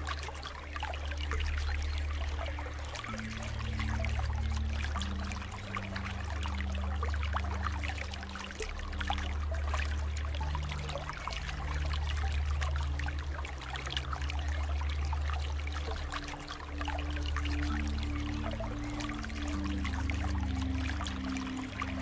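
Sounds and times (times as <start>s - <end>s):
low droning note: 0.0s - 22.0s
stream water flowing: 0.0s - 22.0s.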